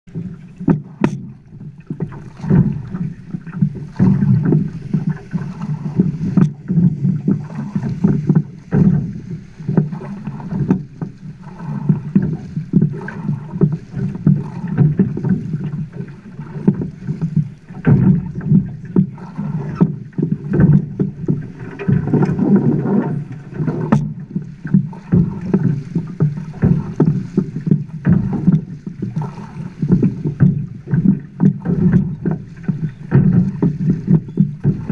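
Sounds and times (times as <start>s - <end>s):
irregular thumps: 0.1s - 34.9s
river water slapping against boat: 0.1s - 34.9s.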